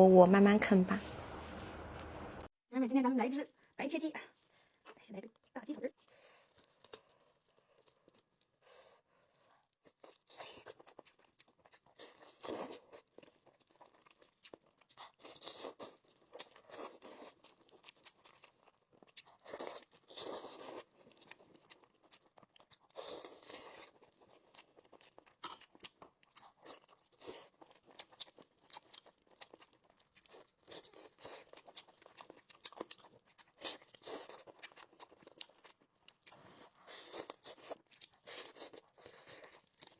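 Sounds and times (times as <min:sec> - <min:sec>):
person chewing and crunching: 0:06.0 - 0:39.9.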